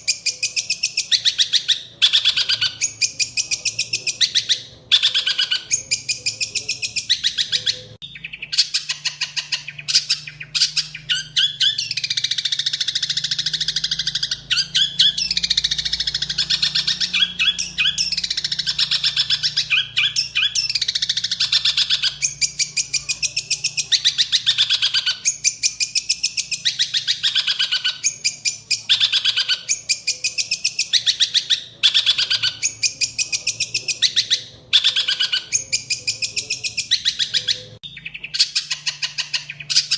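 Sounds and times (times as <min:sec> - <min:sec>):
bird singing rapid chirps: 0:00.0 - 0:39.9
mimicked sparrow chirping: 0:00.0 - 0:39.9.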